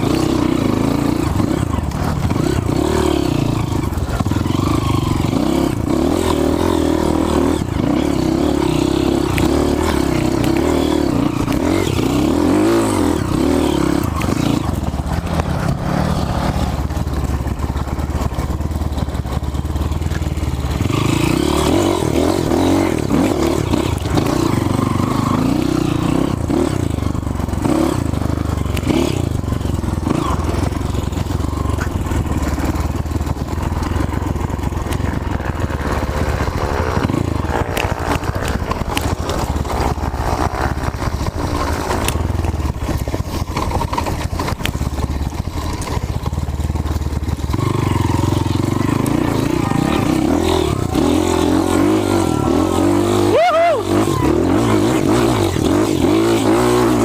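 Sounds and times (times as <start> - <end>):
rattling and sharp clicks: 0.0 - 52.2
motorcycle engine revving: 0.0 - 57.0.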